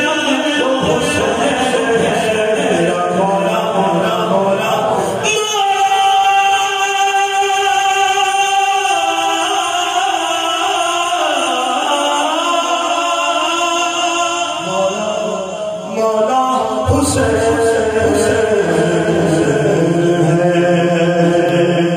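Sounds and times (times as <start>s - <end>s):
man singing into a microphone: 0.0s - 21.9s.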